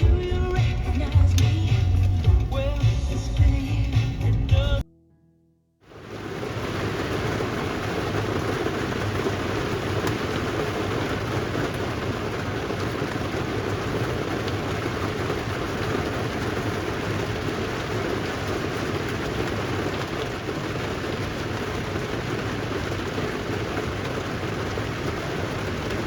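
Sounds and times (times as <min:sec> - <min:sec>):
heavy rain falling: 0:00.0 - 0:03.9, 0:05.9 - 0:26.0.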